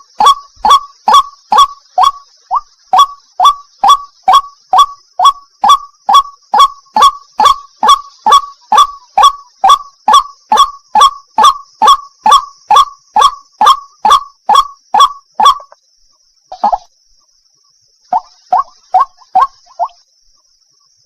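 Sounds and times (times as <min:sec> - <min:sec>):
waterhen calling harsh notes: 0:00.0 - 0:15.8, 0:18.1 - 0:19.9
steady high hiss: 0:00.0 - 0:21.0.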